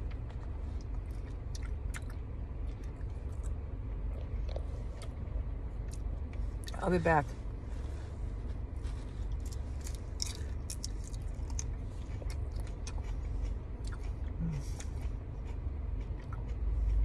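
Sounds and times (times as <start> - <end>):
chewing crunchy salad greens: 0.0 - 6.8, 7.8 - 17.0.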